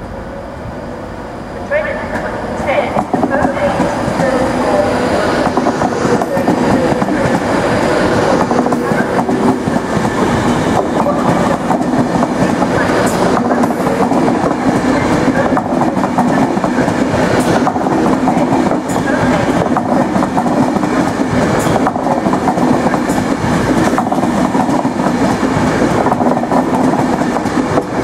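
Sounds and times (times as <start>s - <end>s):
train wheels clattering over rail joints: 5.3s - 28.0s.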